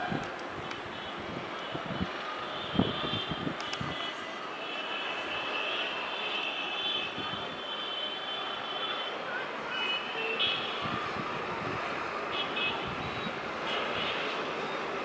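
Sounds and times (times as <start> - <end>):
distant traffic rush: 0.0 - 15.0.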